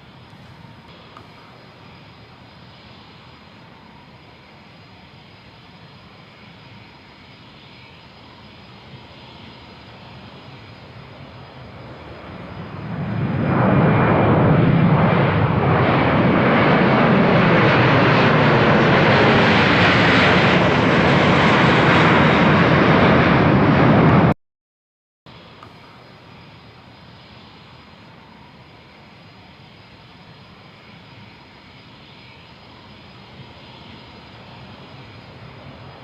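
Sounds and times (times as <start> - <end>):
jet engines running: 0.0 - 24.4, 25.3 - 36.0.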